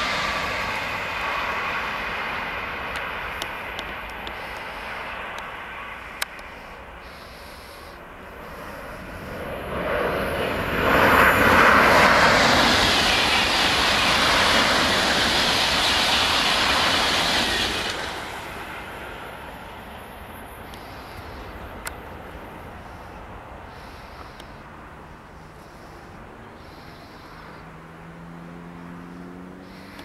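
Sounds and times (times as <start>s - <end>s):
high-speed trains rushing past: 0.0s - 27.7s, 29.6s - 30.0s.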